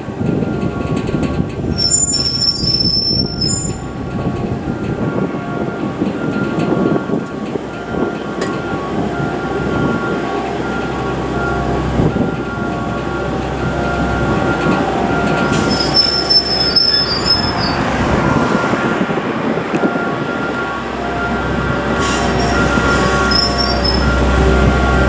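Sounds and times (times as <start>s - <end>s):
train wheels squealing on rails: 0.2s - 25.0s.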